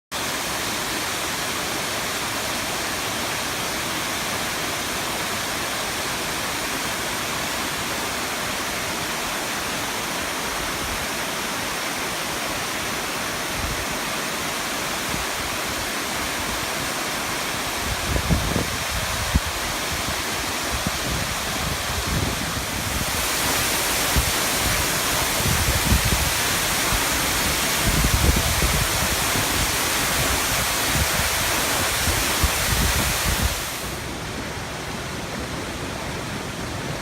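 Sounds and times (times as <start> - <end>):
waterfall rushing: 0.1 - 37.0.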